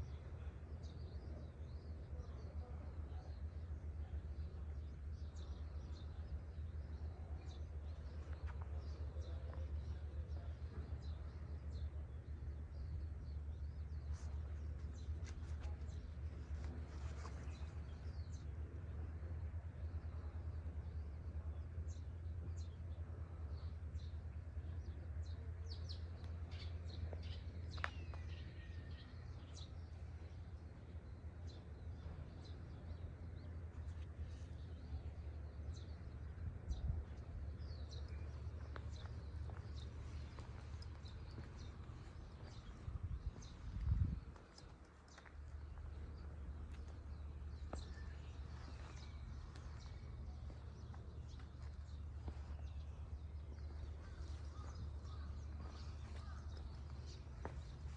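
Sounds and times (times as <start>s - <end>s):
small birds chirping: 0.0s - 57.9s
steady low hum: 0.0s - 57.9s
steady low rumble: 0.0s - 57.9s.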